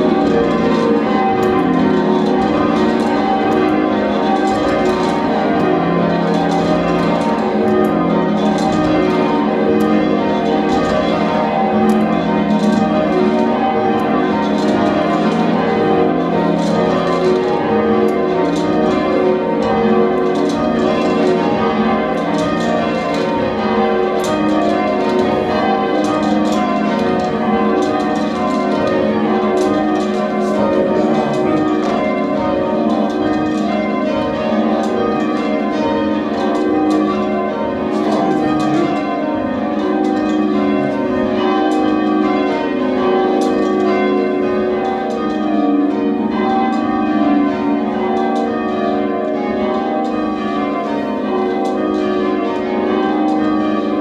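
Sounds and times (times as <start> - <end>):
church bells change ringing: 0.0 - 54.0.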